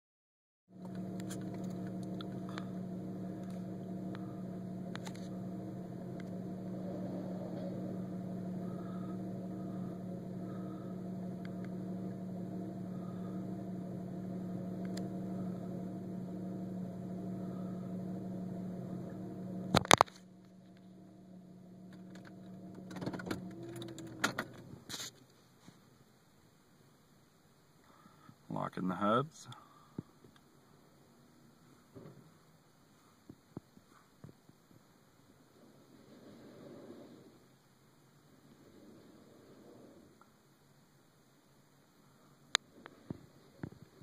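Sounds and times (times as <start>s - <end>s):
steady mechanical hum: 0.7s - 44.0s.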